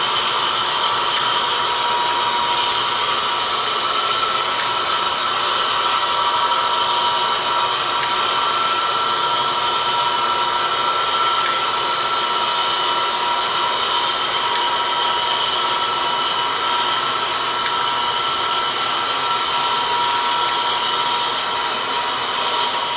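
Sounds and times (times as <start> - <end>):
model train whirring: 0.0 - 22.9.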